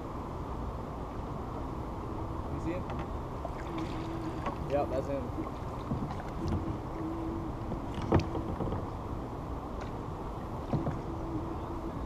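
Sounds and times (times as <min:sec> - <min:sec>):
water and wind against hull: 0:00.0 - 0:12.0.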